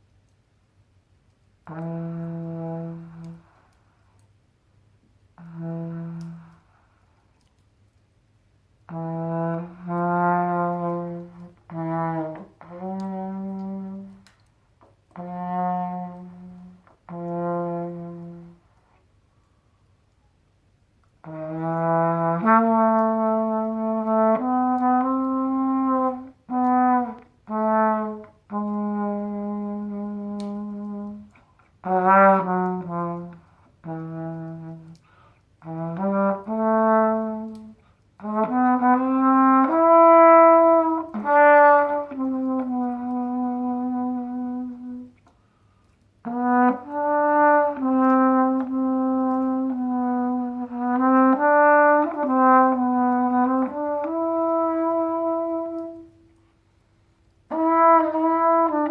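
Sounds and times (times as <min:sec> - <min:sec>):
trumpet playing slow blues: 0:01.4 - 0:04.2, 0:04.8 - 0:07.6, 0:08.6 - 0:58.9.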